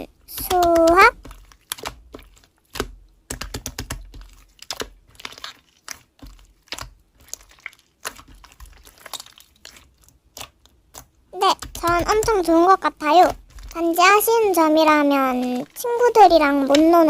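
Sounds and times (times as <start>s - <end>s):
slime squished by hand: 0.3s - 17.0s.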